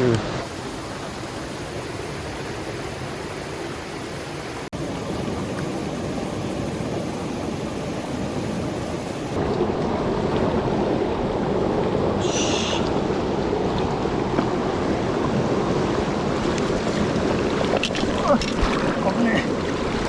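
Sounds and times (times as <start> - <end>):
rushing stream water: 0.0 - 20.0.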